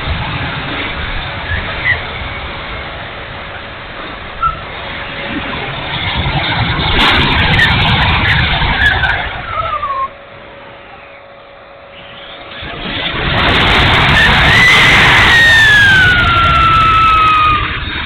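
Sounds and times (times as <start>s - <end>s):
model jet fan rushing: 0.0s - 18.0s.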